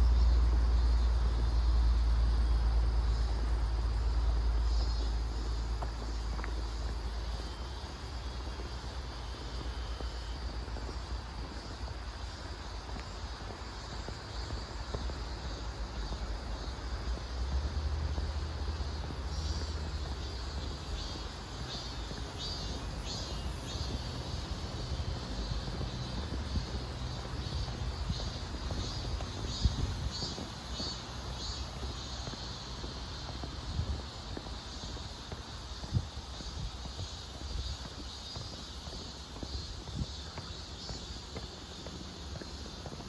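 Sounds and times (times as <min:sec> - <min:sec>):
steady low rumble: 0:00.0 - 0:38.2
crickets and insects chirping: 0:00.0 - 0:43.0.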